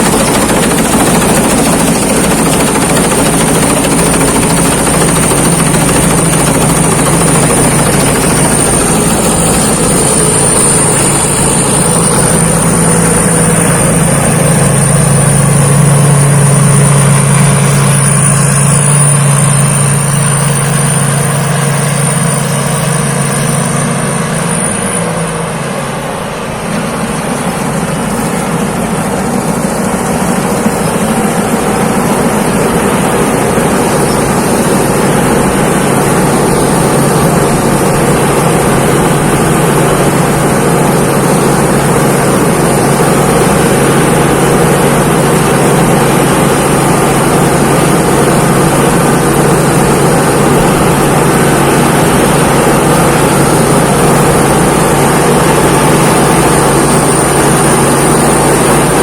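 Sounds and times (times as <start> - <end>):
combine harvester running: 0.0 - 59.0
faint high whine: 0.0 - 59.0.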